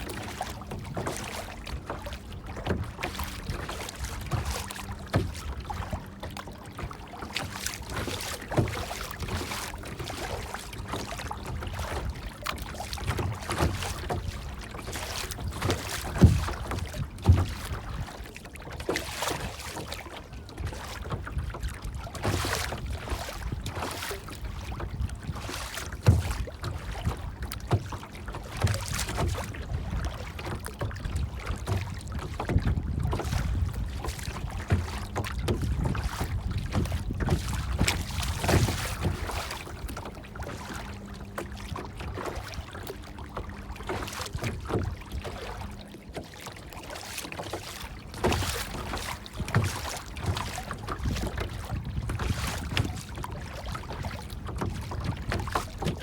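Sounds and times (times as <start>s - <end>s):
low rumble of wind: 0.0s - 56.0s
water splashing and lapping: 0.0s - 56.0s.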